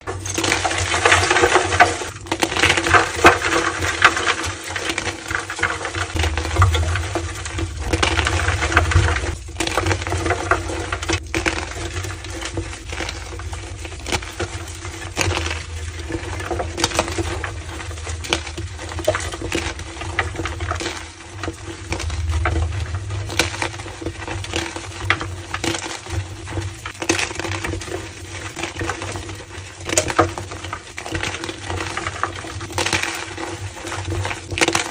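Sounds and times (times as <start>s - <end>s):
chalk crunching and crumbling: 0.1s - 34.9s.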